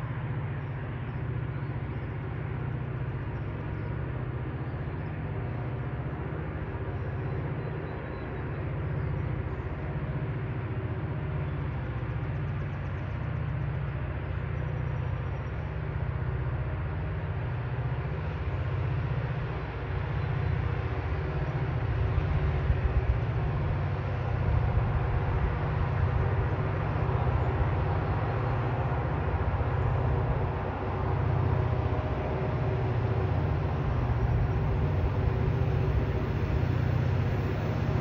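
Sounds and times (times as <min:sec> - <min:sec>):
low engine rumble: 0:00.0 - 0:38.0.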